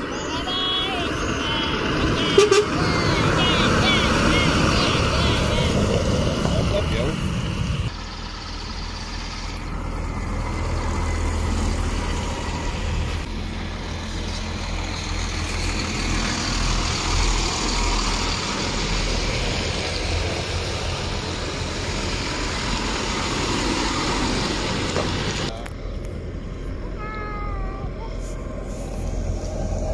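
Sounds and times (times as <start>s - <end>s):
lorry engine rumble: 0.0s - 29.9s.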